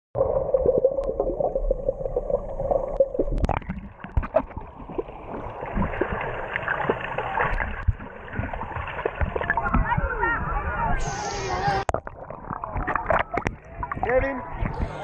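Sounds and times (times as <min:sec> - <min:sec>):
water gurgling and sloshing: 0:00.2 - 0:15.0.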